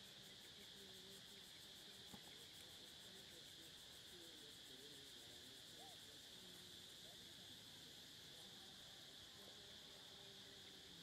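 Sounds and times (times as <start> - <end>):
faint insect chirring: 0.0 - 11.0.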